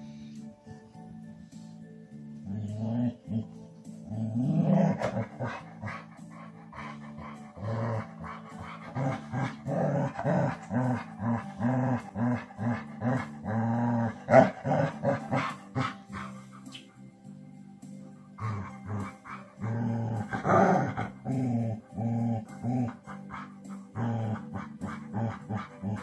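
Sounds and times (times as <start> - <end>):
background music: 0.0 - 26.0
dogs growling in play: 2.4 - 16.7, 18.3 - 26.0.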